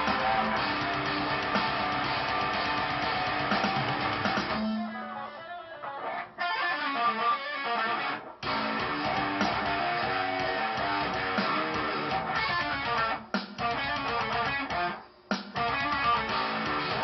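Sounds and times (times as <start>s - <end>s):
electric guitar heavy metal riff: 0.0s - 17.0s.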